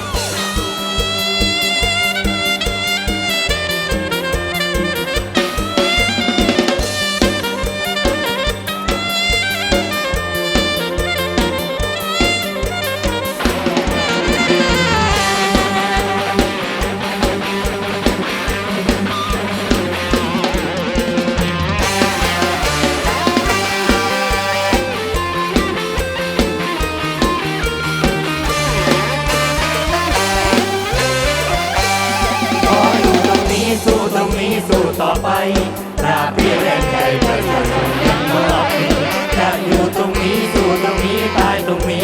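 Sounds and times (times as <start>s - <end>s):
sustained melody line: 0.0s - 34.7s
drum kit fast beat: 0.0s - 42.0s.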